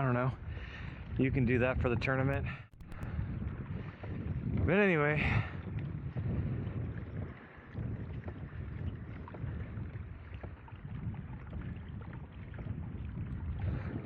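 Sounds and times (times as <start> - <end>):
water sloshing along hull: 0.0 - 1.8, 2.6 - 14.0
wind rumble on microphone: 0.0 - 14.0.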